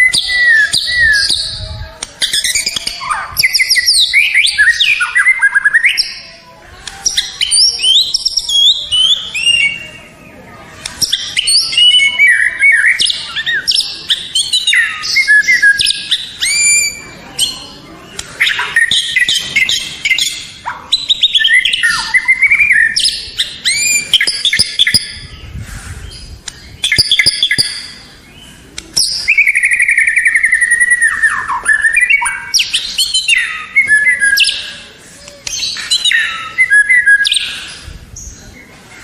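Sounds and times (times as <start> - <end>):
songbird singing whistles and trills: 0.0 - 1.6, 2.2 - 6.3, 6.9 - 10.1, 10.9 - 17.8, 18.4 - 34.8, 35.4 - 38.4.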